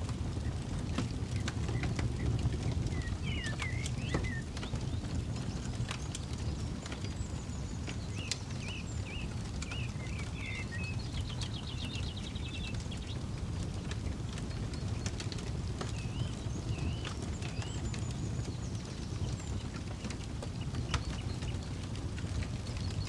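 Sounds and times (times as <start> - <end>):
campfire crackling and popping: 0.0 - 23.0
small birds chirping: 0.3 - 23.0.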